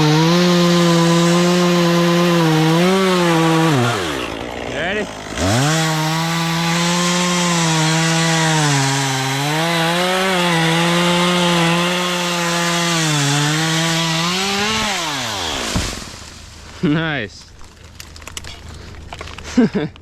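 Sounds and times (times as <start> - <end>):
chainsaw cutting wood: 0.0 - 16.7.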